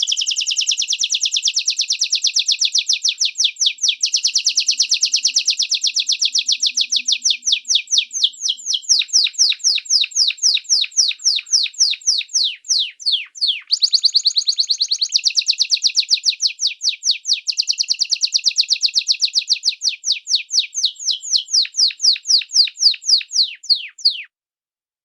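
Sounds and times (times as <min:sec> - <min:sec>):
songbird trilling: 0:00.0 - 0:24.3.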